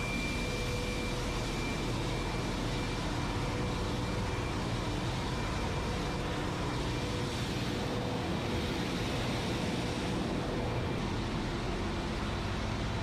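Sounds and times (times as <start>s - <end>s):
faint machinery whines: 0.0s - 13.0s.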